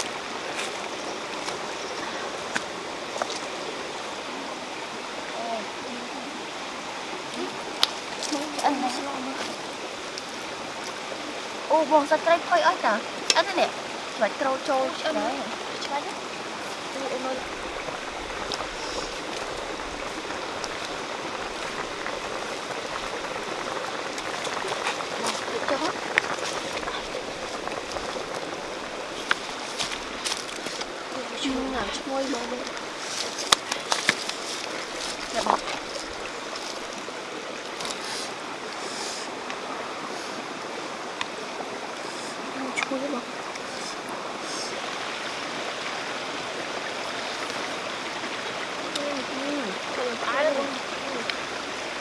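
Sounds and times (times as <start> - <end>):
water hissing and bubbling: 0.0 - 52.0.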